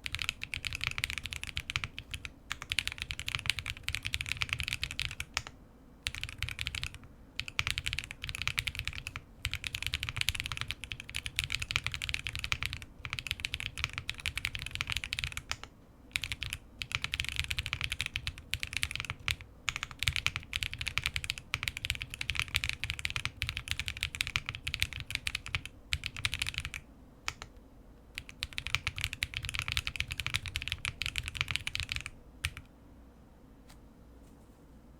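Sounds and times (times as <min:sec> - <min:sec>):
typing on mechanical keyboard: 0:00.0 - 0:27.5, 0:28.2 - 0:32.7.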